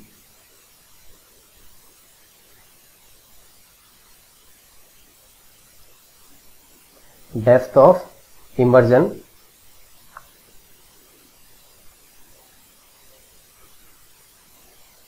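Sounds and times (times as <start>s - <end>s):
room tone hiss: 0.0s - 15.0s.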